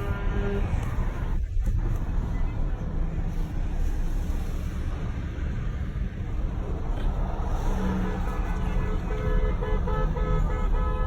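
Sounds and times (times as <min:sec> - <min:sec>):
idling cars rumbling: 0:00.0 - 0:11.0.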